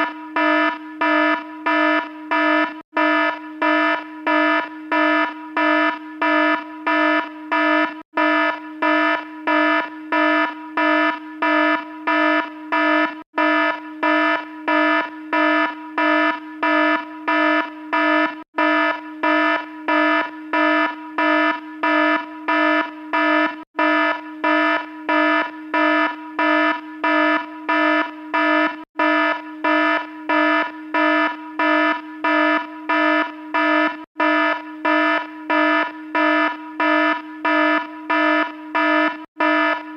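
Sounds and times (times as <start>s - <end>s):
low buzzy alarm beeps: 0.0s - 39.9s.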